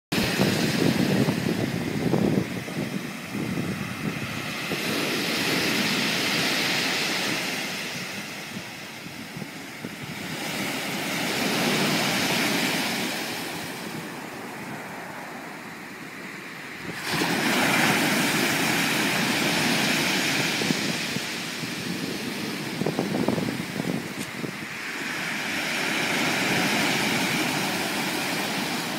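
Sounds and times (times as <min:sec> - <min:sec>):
waves washing up pebble beach: 0:00.2 - 0:28.9.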